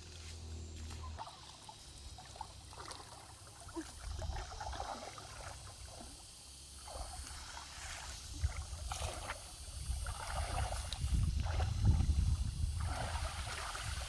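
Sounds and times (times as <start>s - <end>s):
water sloshing and splashing: 1.1s - 14.0s.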